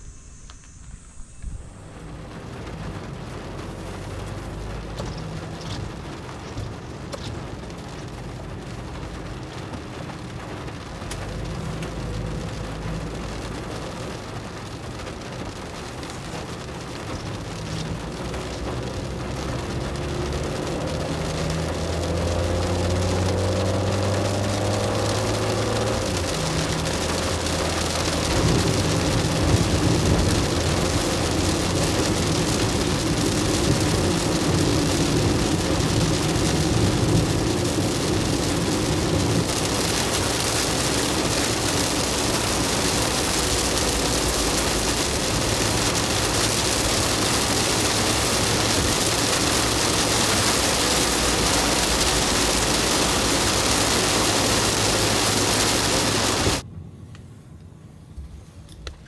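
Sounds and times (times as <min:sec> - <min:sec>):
rain on windscreen: 0:00.0 - 0:56.7
low engine hum: 0:00.0 - 0:59.0
tyre and road noise: 0:00.0 - 0:59.0.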